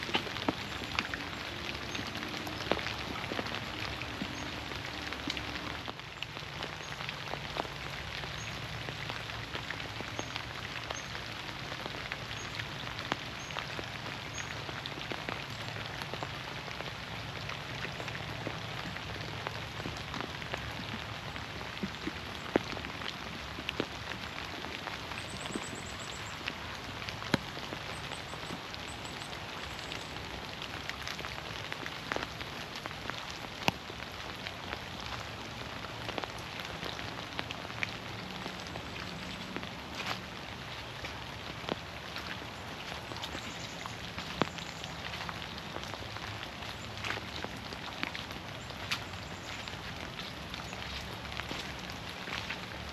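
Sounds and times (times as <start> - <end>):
rain pattering on leaves: 0.0 - 52.9.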